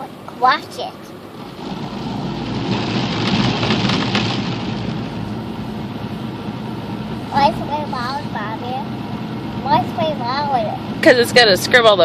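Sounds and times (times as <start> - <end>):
car wash water spraying: 0.5 - 12.0.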